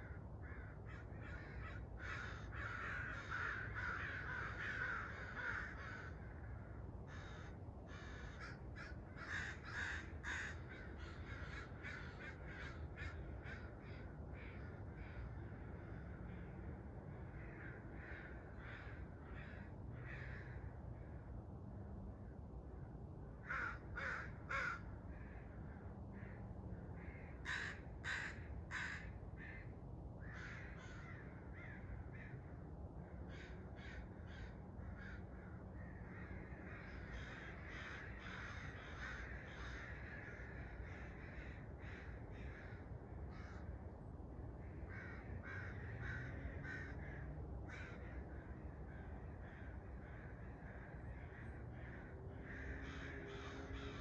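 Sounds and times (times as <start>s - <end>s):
short overlapping bird calls: 0.0s - 21.4s, 22.1s - 54.0s
low background rumble: 0.0s - 54.0s.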